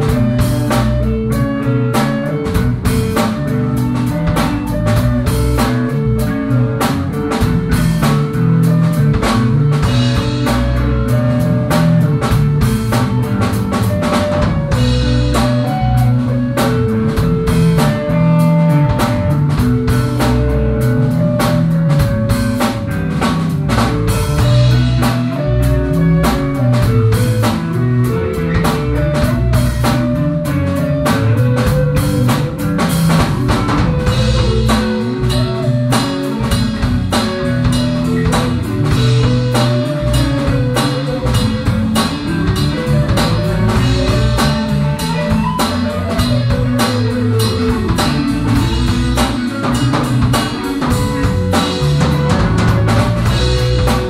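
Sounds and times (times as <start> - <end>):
drum kit beat: 0.0 - 54.0
guitars playing: 0.0 - 54.0.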